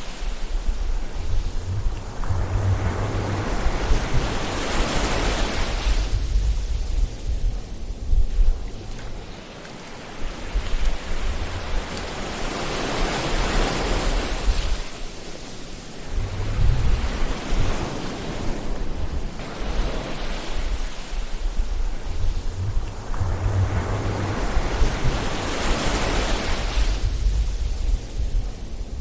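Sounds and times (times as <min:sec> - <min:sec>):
ocean waves washing on shore: 0:00.0 - 0:29.0.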